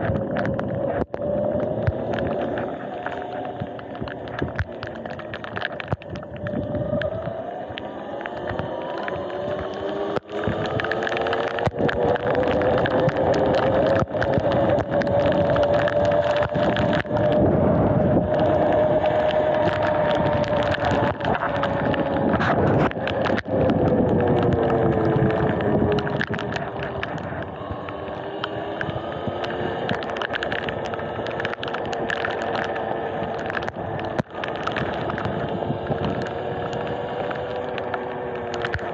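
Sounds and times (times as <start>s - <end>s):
wind on microphone: 0.0s - 38.9s
tyres hissing on wet pavement: 0.4s - 38.9s.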